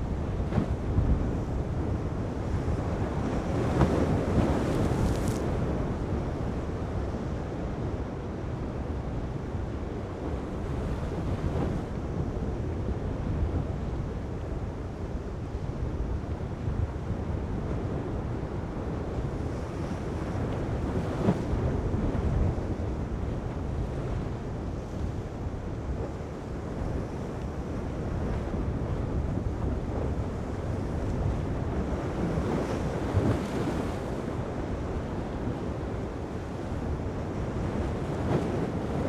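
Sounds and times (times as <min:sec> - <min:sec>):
wind buffeting microphone: 0:00.0 - 0:07.4, 0:09.8 - 0:39.0
rough sea and breaking waves: 0:00.0 - 0:39.0.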